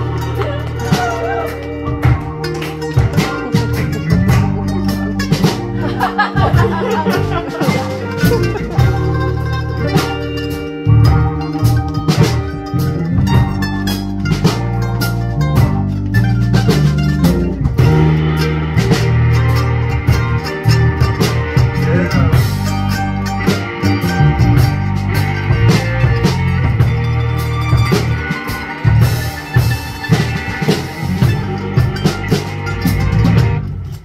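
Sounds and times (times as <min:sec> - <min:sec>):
keyboards: 0:00.0 - 0:34.0
low bass line: 0:00.0 - 0:34.0
mandolin picking: 0:00.0 - 0:34.0
percussive hits: 0:00.0 - 0:34.0.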